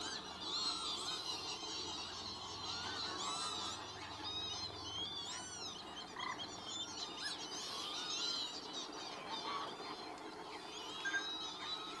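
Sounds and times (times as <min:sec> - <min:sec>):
flock of waterbirds calling: 0:00.0 - 0:12.0.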